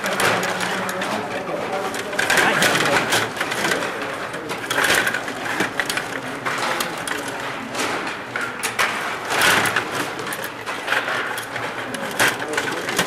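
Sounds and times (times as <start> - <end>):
table hockey rods clicking: 0.0 - 13.0.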